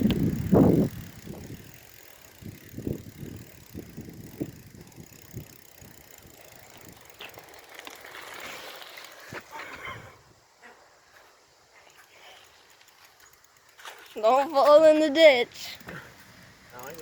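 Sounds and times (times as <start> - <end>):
bicycle knocking and rattling: 0.0 - 9.5, 11.8 - 17.0.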